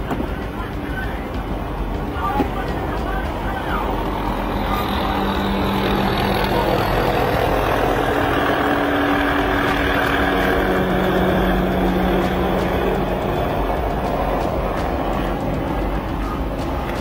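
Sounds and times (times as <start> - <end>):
heavy vehicle engines running: 0.0 - 17.0
road noise: 0.0 - 17.0.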